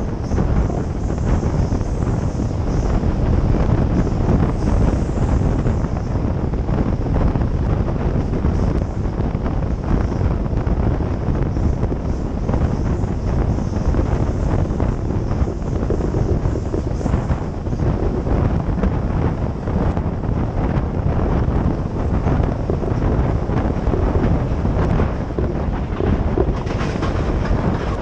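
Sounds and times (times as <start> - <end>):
train rumbling on track: 0.0 - 28.0
wind buffeting microphone: 0.0 - 28.0.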